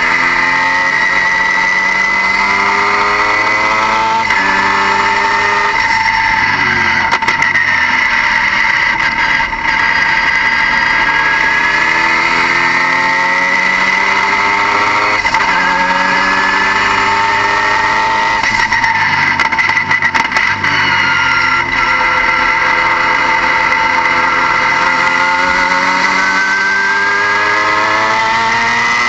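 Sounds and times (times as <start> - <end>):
car engine revving: 0.0 - 29.0
high-pitched whine: 0.0 - 29.0.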